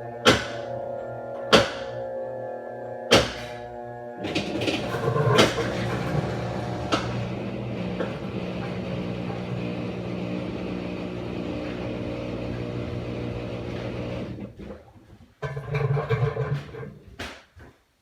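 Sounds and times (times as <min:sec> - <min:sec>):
washing machine humming drone: 0:00.0 - 0:14.7.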